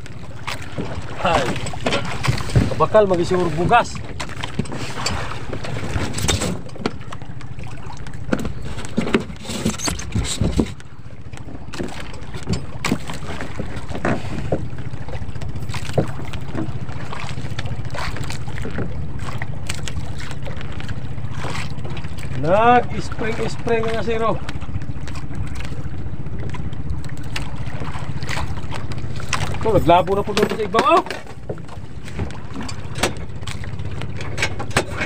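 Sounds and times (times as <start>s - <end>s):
gear knocking against boat: 0.0s - 35.0s
small boat engine running: 0.0s - 35.0s.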